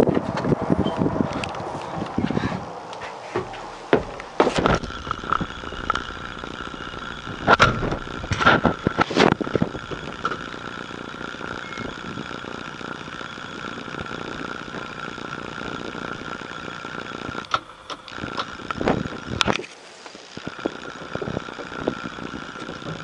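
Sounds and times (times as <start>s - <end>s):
diesel engine running: 0.0s - 19.7s
steady high tone: 0.0s - 23.0s.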